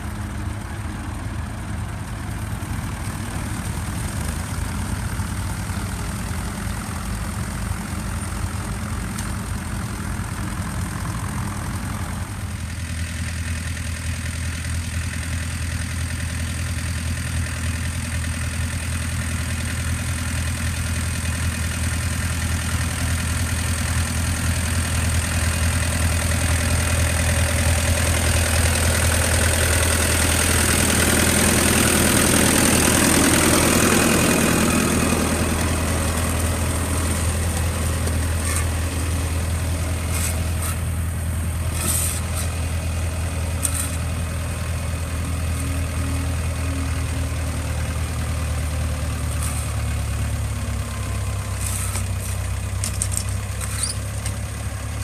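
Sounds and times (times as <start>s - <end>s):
tractor diesel engines running: 0.0s - 55.0s.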